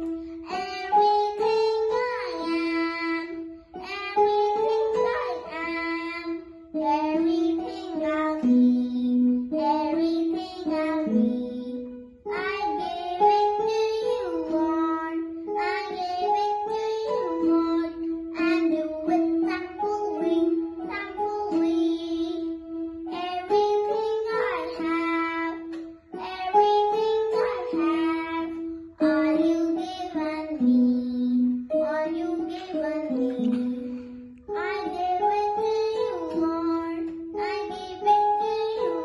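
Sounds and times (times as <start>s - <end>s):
electronic keyboard held notes: 0.0s - 39.0s
girl singing: 0.0s - 39.0s.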